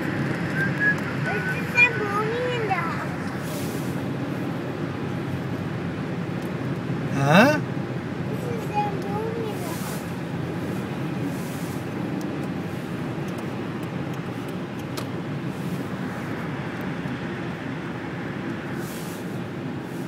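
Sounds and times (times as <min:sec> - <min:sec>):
car road noise: 0:00.0 - 0:20.0.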